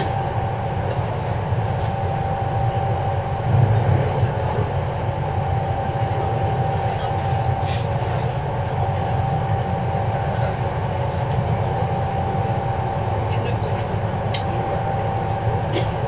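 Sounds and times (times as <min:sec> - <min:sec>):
steady whine: 0:00.0 - 0:16.0
wheels rumbling on track: 0:00.0 - 0:16.0.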